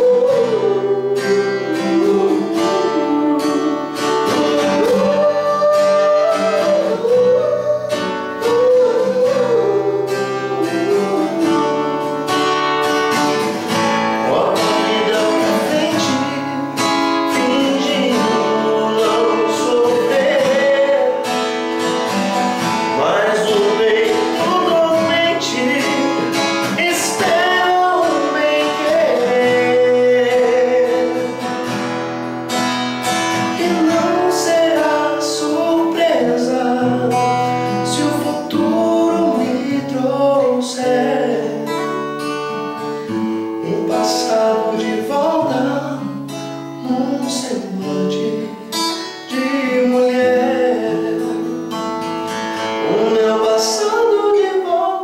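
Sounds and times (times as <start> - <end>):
man singing: 0.0 - 42.2, 42.8 - 55.0
acoustic guitar strumming: 0.0 - 55.0.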